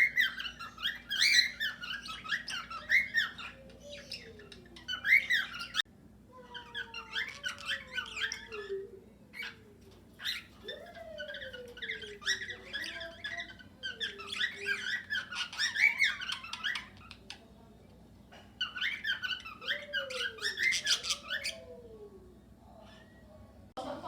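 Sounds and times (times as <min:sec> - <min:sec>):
parakeets chattering and squawking: 0:00.0 - 0:23.7.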